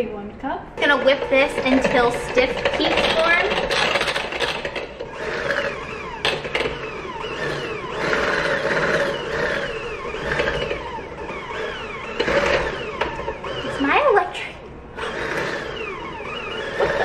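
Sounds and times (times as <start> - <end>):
electric hand mixer whipping cream: 0.8 - 14.2, 14.9 - 17.0.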